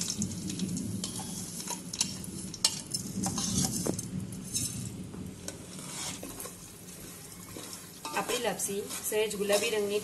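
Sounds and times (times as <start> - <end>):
metal spoon scraping and clinking: 0.0 - 6.6, 7.3 - 10.0
wheat sizzling in hot fat: 0.0 - 10.0.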